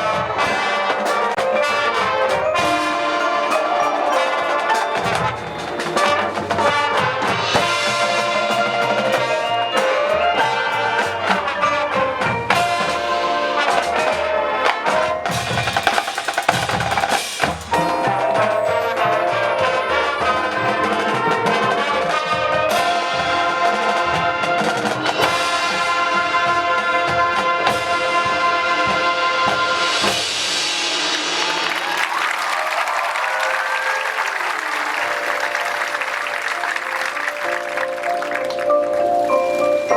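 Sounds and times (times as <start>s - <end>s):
brass instruments sustaining chords: 0.0s - 15.7s, 17.7s - 31.8s, 32.6s - 39.9s
snare drum rolls: 0.0s - 39.9s.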